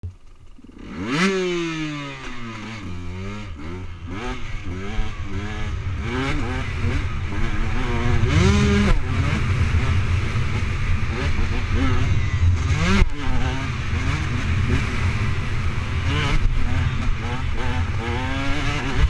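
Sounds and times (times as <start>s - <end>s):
constant low rumble: 0.0s - 19.0s
motocross bike engine revving: 0.1s - 19.0s.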